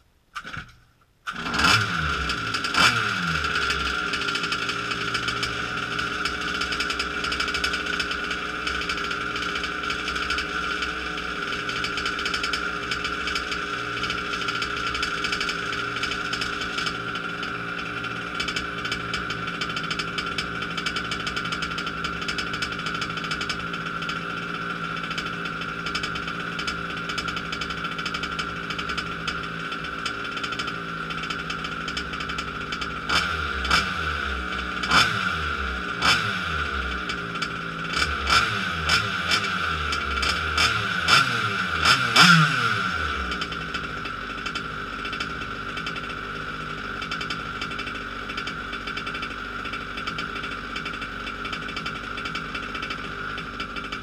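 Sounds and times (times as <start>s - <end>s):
two-stroke engine revving and idling: 0.4s - 54.0s.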